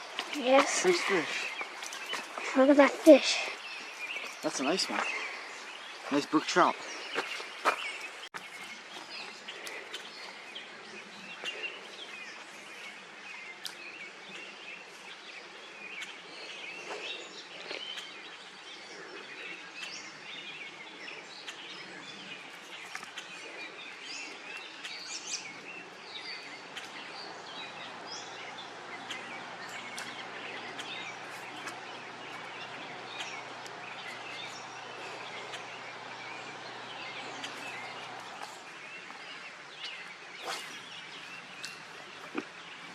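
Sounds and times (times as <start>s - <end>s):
outdoor background hiss: 0.0s - 42.9s
small birds chirping: 0.0s - 42.9s.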